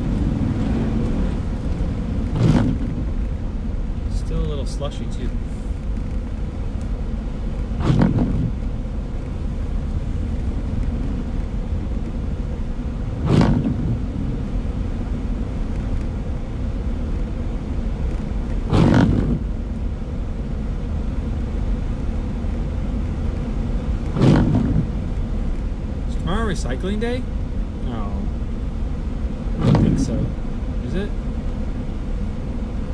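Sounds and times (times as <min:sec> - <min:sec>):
windshield wiper sweep: 0:00.0 - 0:04.4, 0:05.2 - 0:19.9, 0:20.5 - 0:26.5, 0:27.6 - 0:32.9
engine and tyre rumble: 0:00.0 - 0:32.9.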